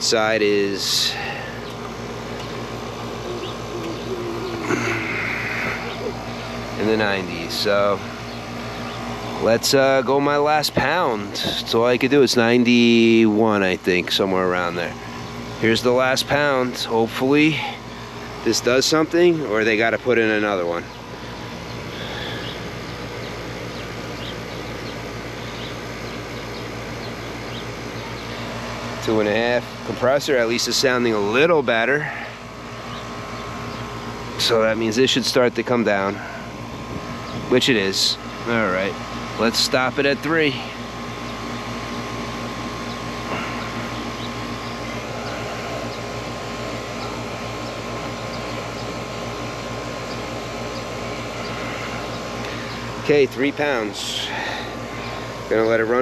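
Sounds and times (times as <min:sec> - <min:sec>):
air conditioner unit running: 0:00.0 - 0:56.0
compressor low hum: 0:00.0 - 0:56.0
fan rushing: 0:00.0 - 0:56.0.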